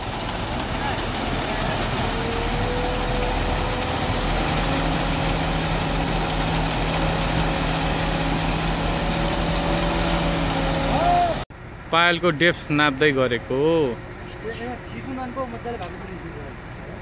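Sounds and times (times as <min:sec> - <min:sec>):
construction machinery engine running: 0:00.0 - 0:17.0.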